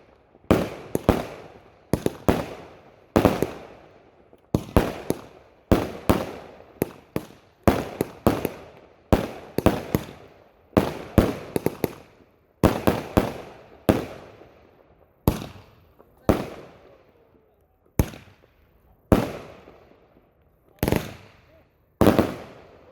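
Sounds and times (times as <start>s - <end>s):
fireworks bangs: 0.0s - 14.4s, 15.2s - 17.2s, 17.9s - 22.9s.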